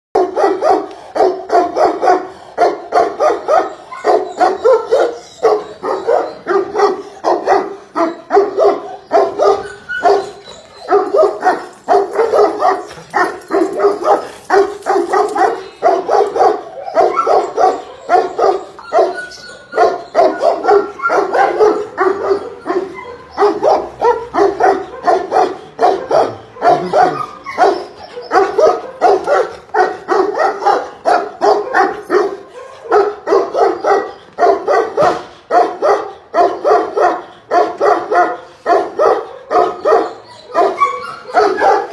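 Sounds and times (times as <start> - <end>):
large dog barking: 0.2 - 41.9.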